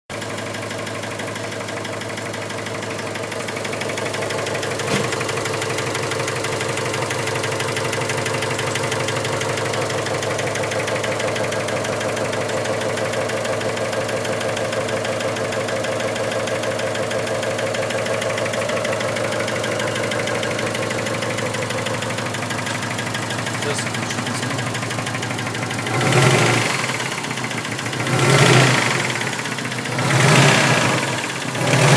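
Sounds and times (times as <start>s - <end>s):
car engine idling with knock: 0.1s - 31.9s.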